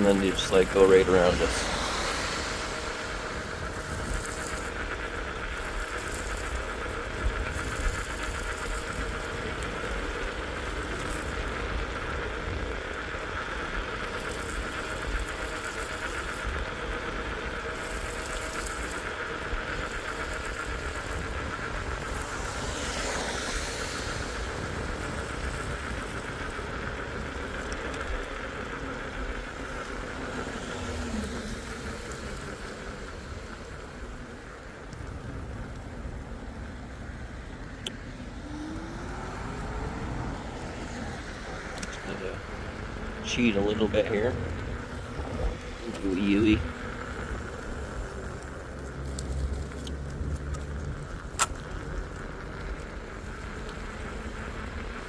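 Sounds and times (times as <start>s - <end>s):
electric bike motor whine: 0.0s - 55.0s
road rumble: 0.0s - 55.0s
wind: 0.0s - 55.0s.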